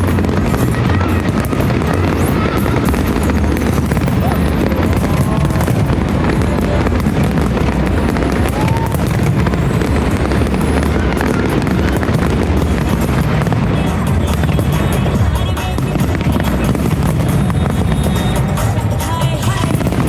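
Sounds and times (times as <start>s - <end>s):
firework whistle: 0.0s - 20.0s
fireworks booming and crackling: 0.0s - 20.0s
loud music: 0.0s - 20.0s.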